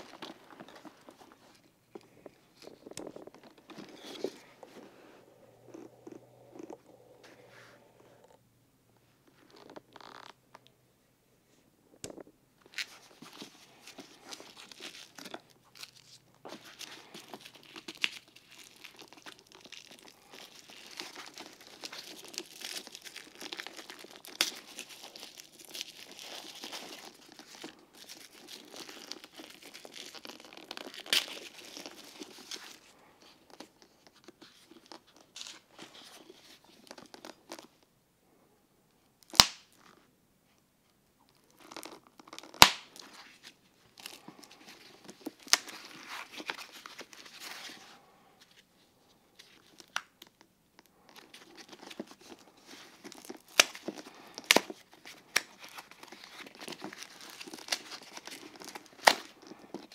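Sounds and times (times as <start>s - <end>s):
wrapping crinkling and tearing: 0.0s - 7.4s, 12.6s - 37.8s, 41.2s - 59.9s.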